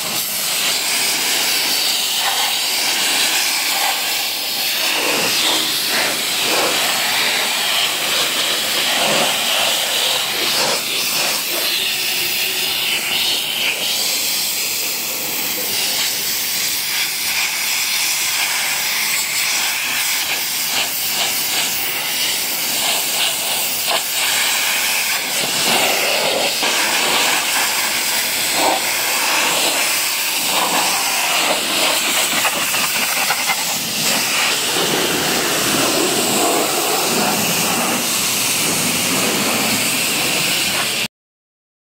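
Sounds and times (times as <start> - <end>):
pressure washer spray hissing: 0.0 - 41.1.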